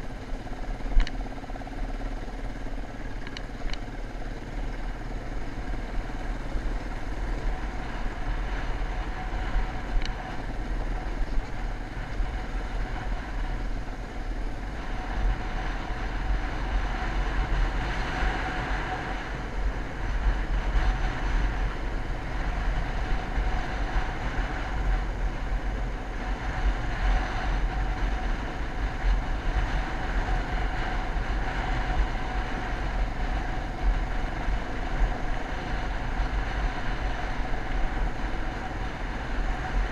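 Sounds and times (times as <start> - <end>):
heavy low rumble: 0.0 - 39.9
motocross bike engine running: 0.0 - 39.9.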